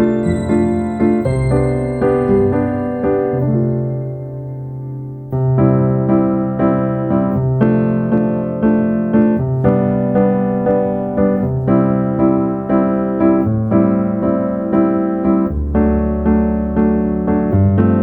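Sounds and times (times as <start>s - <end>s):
electric piano chords: 0.0s - 18.0s.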